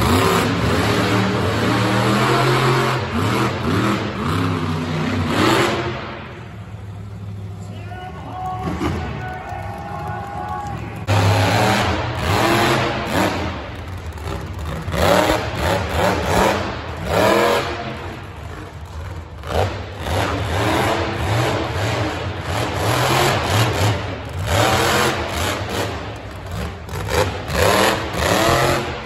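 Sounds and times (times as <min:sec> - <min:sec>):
monster truck engine revving: 0:00.0 - 0:07.6, 0:10.7 - 0:29.0.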